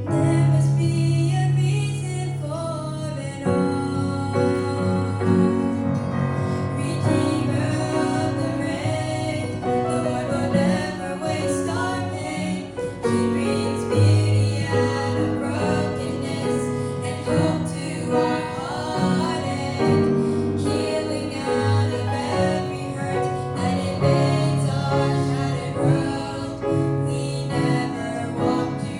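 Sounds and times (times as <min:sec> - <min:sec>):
guitar: 0:00.0 - 0:28.9
piano: 0:00.0 - 0:28.9
two women singing gospel: 0:00.0 - 0:28.9.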